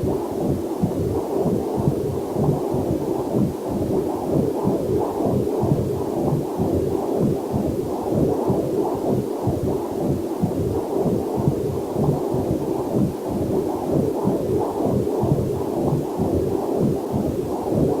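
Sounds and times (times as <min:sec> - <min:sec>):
whooshing heartbeat on doppler: 0:00.0 - 0:18.0.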